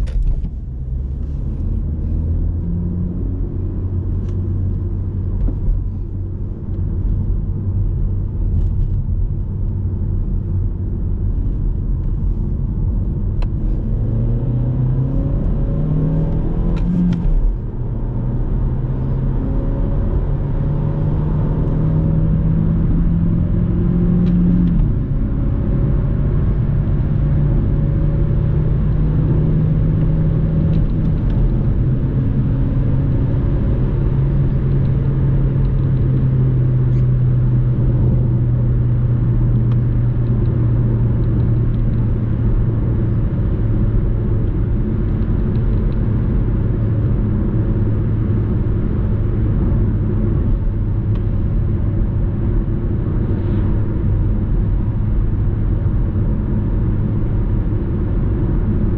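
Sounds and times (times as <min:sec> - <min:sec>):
car engine cruising: 0:00.0 - 0:58.9
tyre and road noise: 0:00.0 - 0:58.9.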